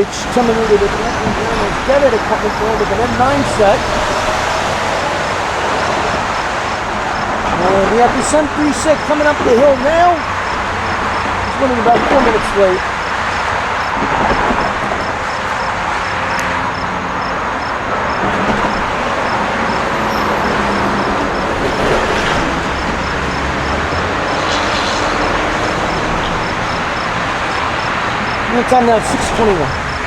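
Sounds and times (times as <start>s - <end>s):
crossing bell dinging: 0.0s - 30.0s
electric train passing: 0.0s - 30.0s.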